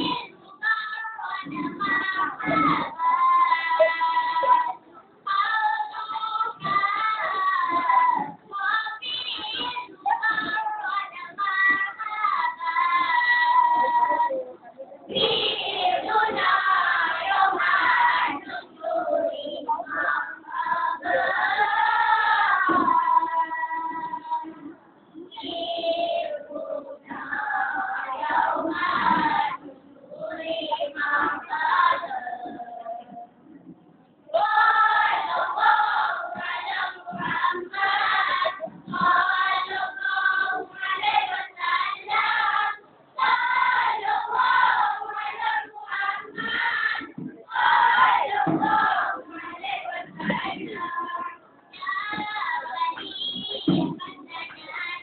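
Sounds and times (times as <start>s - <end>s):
boys singing devotional chant: 0.0s - 33.4s, 34.3s - 55.0s.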